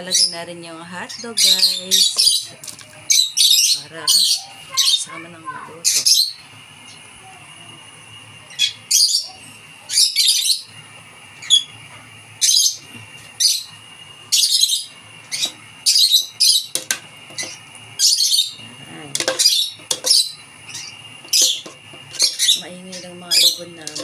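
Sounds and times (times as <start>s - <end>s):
birds chirping and squawking: 0.0s - 0.4s, 1.0s - 7.2s, 8.4s - 10.8s, 11.4s - 24.0s.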